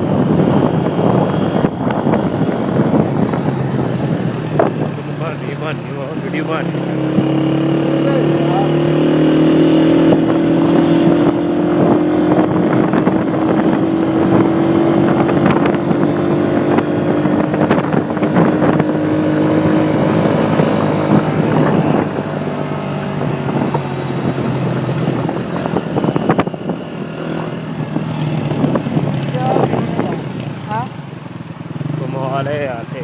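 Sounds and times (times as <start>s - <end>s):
wind noise on microphone: 0.0s - 32.0s
motorcycle engine running: 0.0s - 33.0s.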